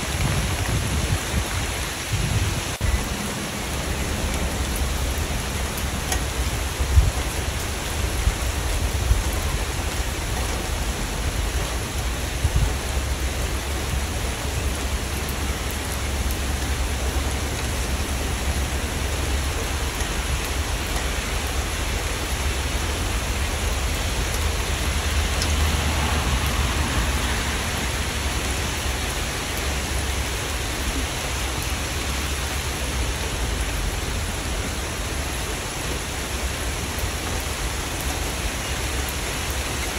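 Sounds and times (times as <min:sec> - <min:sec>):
rain drop hits: 0:00.0 - 0:39.9
steady rain hiss: 0:00.0 - 0:39.9.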